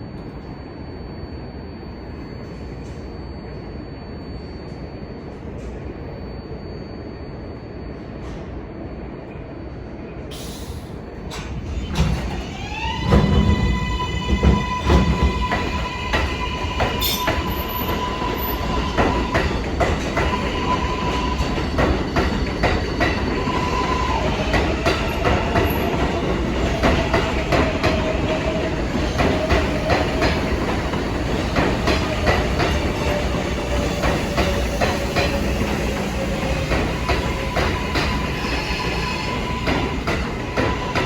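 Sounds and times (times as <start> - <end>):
subway train running on track: 0.0 - 41.0.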